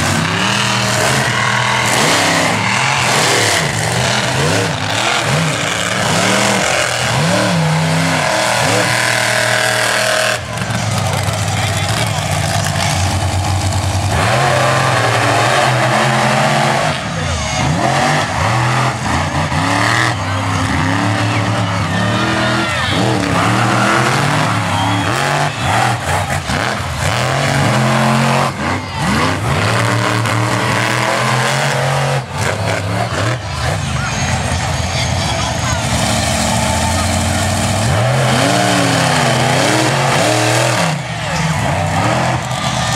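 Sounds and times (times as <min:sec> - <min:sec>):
monster truck engines revving: 0:00.0 - 0:42.9.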